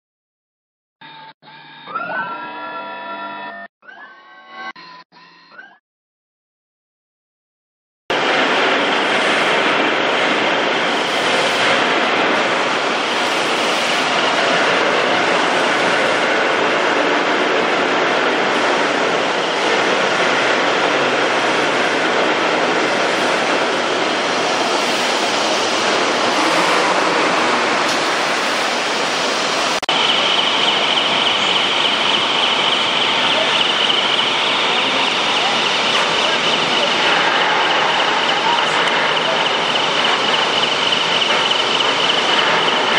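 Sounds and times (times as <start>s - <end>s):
rail cart running on track: 8.1s - 42.9s
steady high-pitched whine: 8.1s - 42.9s.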